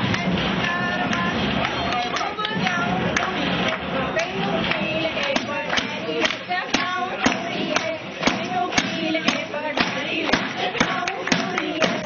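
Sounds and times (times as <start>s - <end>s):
hand percussion beats: 0.0s - 12.0s
rhythmic clapping: 0.0s - 12.0s
women singing: 0.0s - 12.0s.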